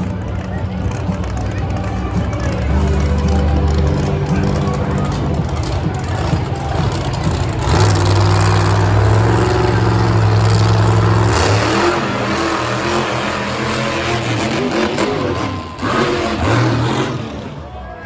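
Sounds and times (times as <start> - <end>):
truck engine at high revs: 0.0 - 18.0.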